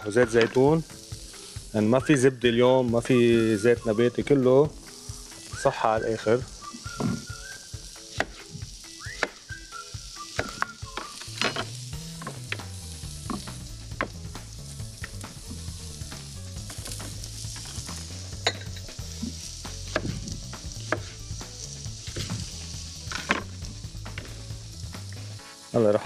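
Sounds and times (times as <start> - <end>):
carrots sizzling in oil: 0.0 - 26.0.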